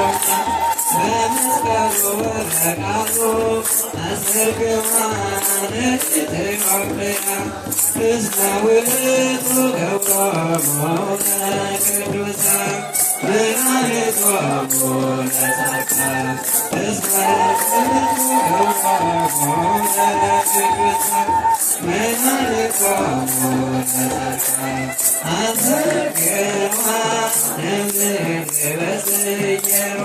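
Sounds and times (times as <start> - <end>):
voices chanting together: 0.0 - 30.0.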